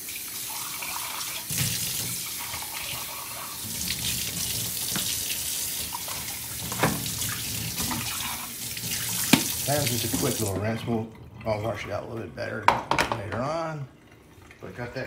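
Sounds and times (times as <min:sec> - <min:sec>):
faucet running into sink: 0:00.0 - 0:12.1.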